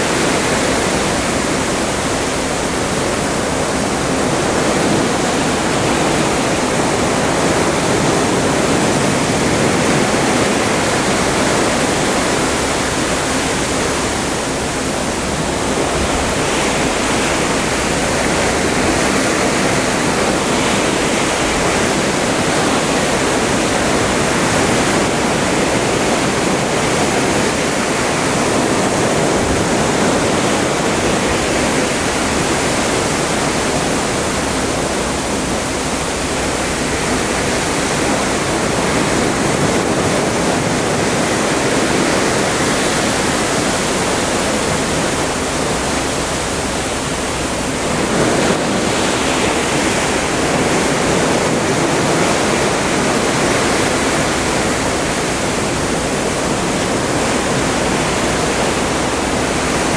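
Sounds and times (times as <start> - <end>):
water rushing past a ship: 0.0 - 59.9.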